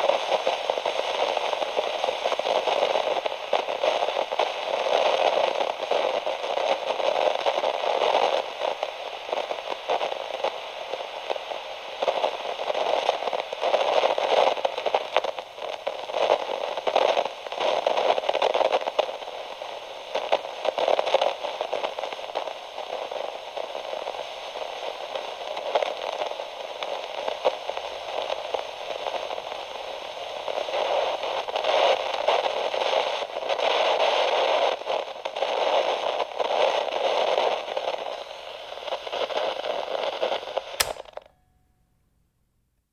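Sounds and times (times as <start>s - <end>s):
radio static crackling hiss: 0.0s - 41.3s.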